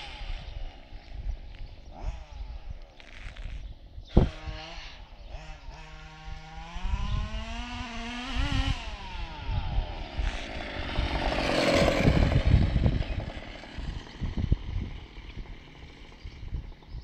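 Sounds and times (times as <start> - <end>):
rc buggy engine revving: 0.0 - 3.4, 4.1 - 17.0.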